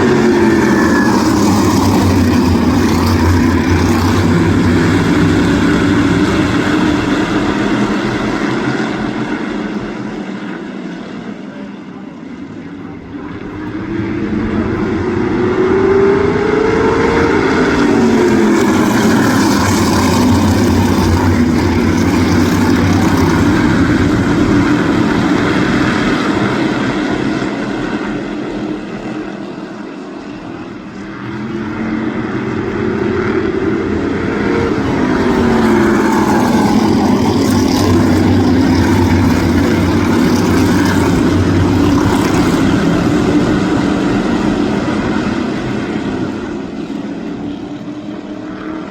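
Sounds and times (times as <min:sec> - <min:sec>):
race car engines passing: 0:00.0 - 0:48.9.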